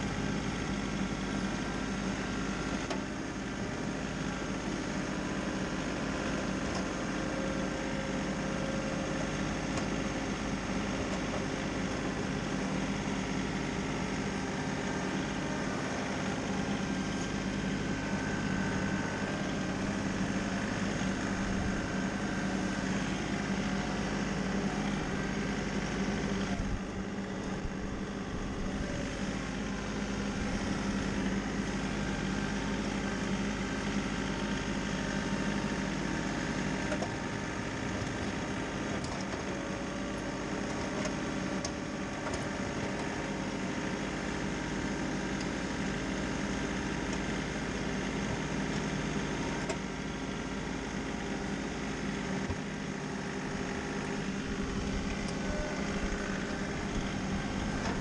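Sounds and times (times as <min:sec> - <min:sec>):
engine humming steadily: 0:00.0 - 0:58.0.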